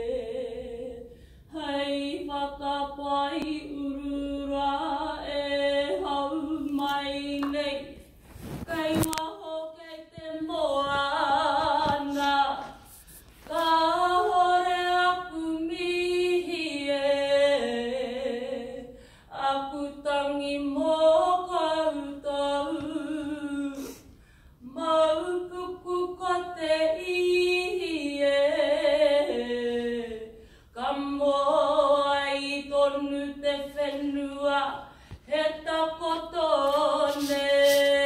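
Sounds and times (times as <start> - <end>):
woman singing unaccompanied: 0.0 - 24.0, 24.6 - 38.0.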